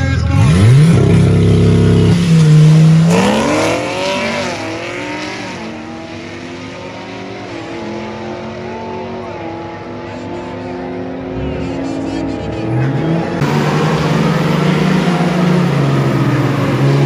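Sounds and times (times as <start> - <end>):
racing car engines revving: 0.0 - 17.0
cars accelerating through upshifts: 0.4 - 17.0.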